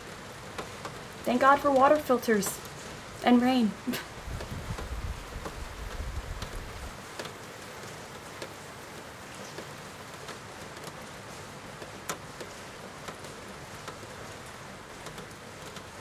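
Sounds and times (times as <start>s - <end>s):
raindrops ticking: 0.0s - 16.0s
steady rain falling: 0.0s - 16.0s.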